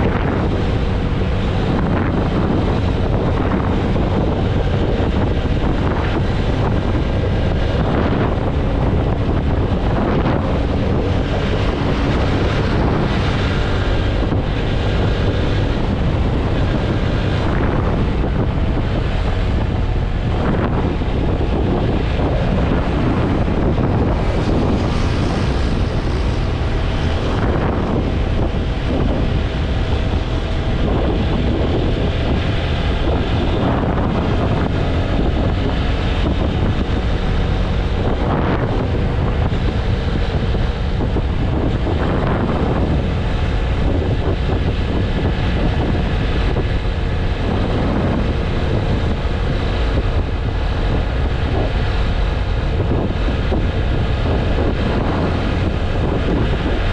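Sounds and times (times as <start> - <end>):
motorcycle engine drone: 0.0 - 56.9
wind buffeting microphone: 0.0 - 56.9.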